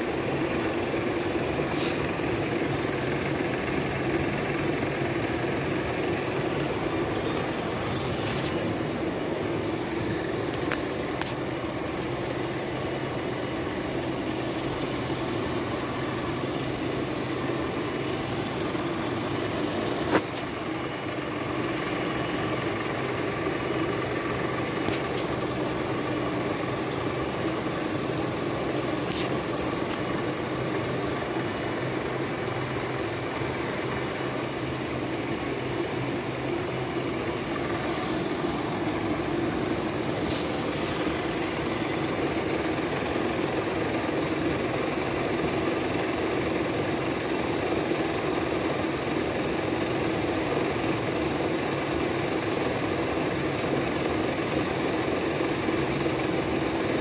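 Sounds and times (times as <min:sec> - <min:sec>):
faint high whine: 0:00.0 - 0:53.9
lathe mechanical hum: 0:00.0 - 0:57.0.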